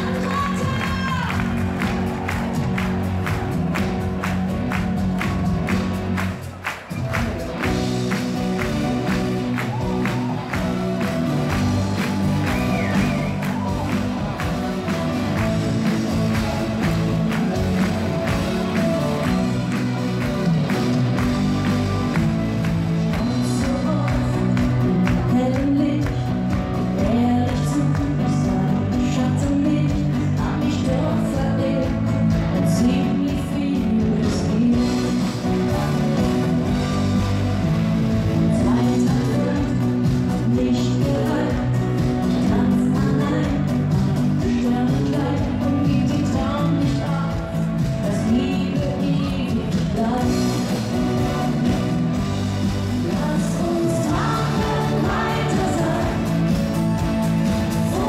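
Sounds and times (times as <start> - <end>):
live pop band with singing: 0.0 - 58.0.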